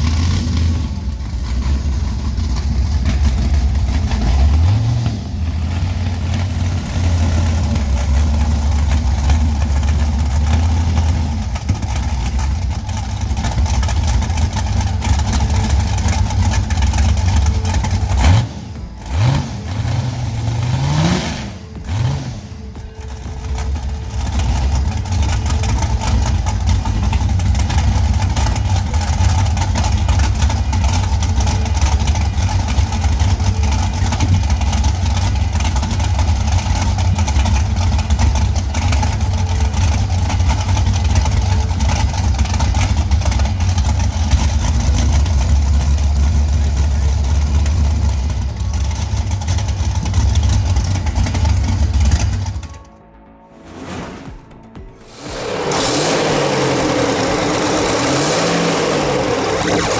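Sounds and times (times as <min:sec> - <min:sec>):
large engine running: 0:00.0 - 0:59.9.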